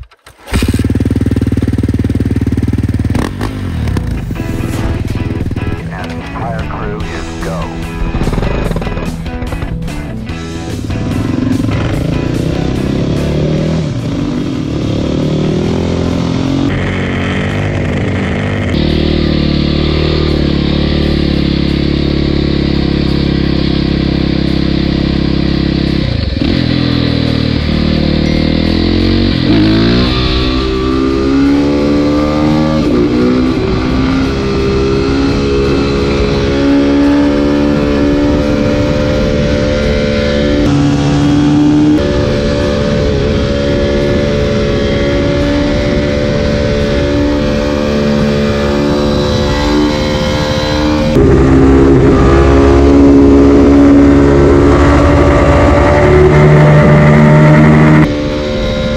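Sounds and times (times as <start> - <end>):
motorcycle engine revving: 0.2 - 58.9.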